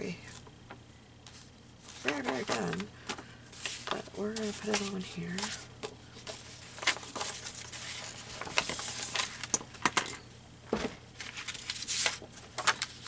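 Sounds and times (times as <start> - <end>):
paper rustling: 1.2 - 9.8, 10.7 - 13.0.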